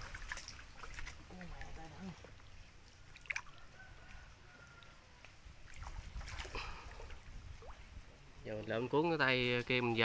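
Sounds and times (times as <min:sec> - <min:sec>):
water sloshing and dripping: 0:00.0 - 0:08.8.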